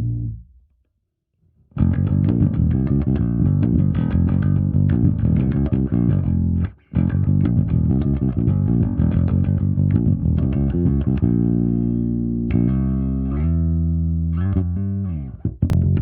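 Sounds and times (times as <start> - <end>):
electric bass guitar plucked notes: 0.0 - 0.6, 1.7 - 16.0.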